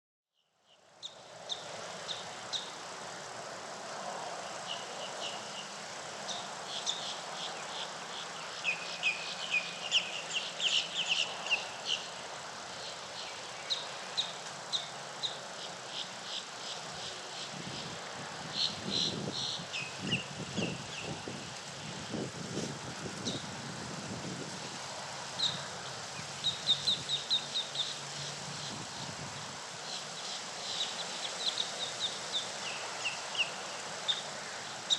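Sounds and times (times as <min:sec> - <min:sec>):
outdoor hiss: 0:00.6 - 0:34.9.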